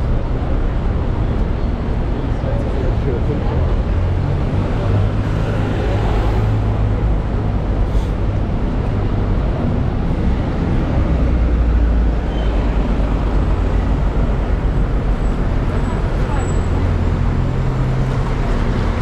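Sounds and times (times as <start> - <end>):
buses and cars passing: 0.0 - 19.0.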